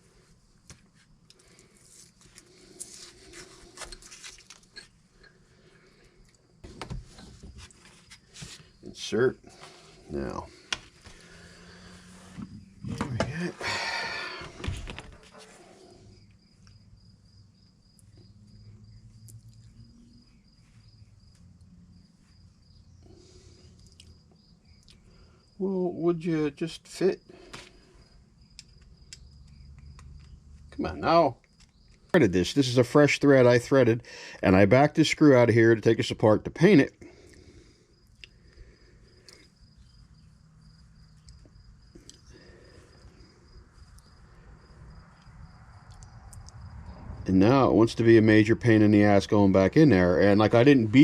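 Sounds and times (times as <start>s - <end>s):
faint cricket chirping: 0.0s - 51.0s.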